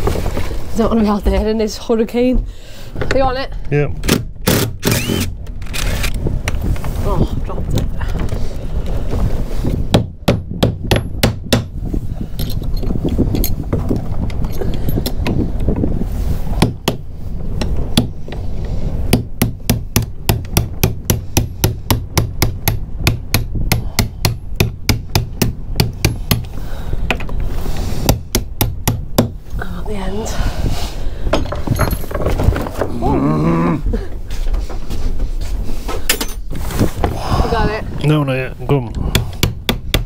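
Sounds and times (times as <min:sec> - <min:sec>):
low wind rumble: 0:00.0 - 0:40.0.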